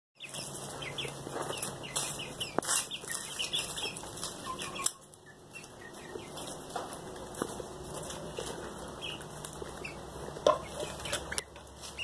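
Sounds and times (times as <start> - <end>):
chicks cheeping: 0.2 - 12.0.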